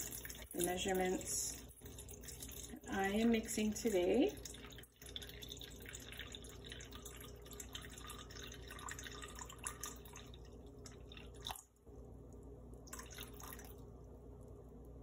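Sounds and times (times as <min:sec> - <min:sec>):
water trickling into metal bowl: 0:00.0 - 0:11.7, 0:12.9 - 0:13.8.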